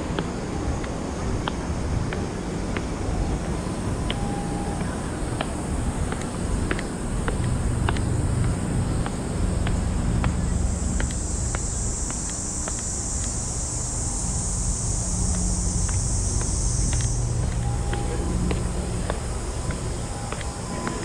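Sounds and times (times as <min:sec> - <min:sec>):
cicadas droning: 0:00.0 - 0:21.0
constant low rumble: 0:00.0 - 0:21.0.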